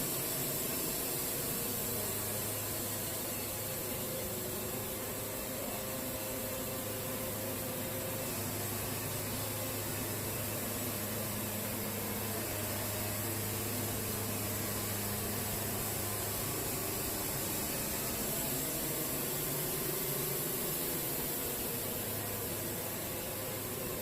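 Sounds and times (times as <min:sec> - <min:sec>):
band sawmill running: 0:00.0 - 0:24.0.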